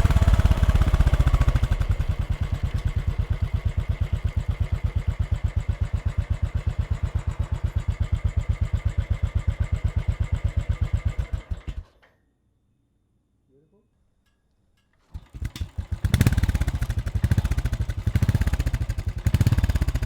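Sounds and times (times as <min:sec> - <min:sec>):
motorcycle engine idling: 0:00.0 - 0:11.8, 0:15.1 - 0:20.0
engine switched off: 0:00.0 - 0:12.1, 0:15.1 - 0:20.0.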